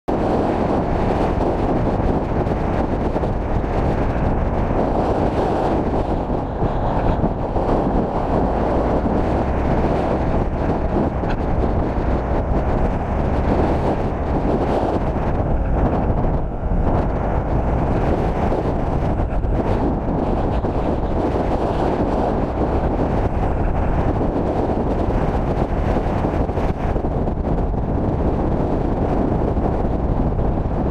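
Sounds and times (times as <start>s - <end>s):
wheels rolling on asphalt: 0.1s - 30.9s
wind buffeting microphone: 0.1s - 30.9s.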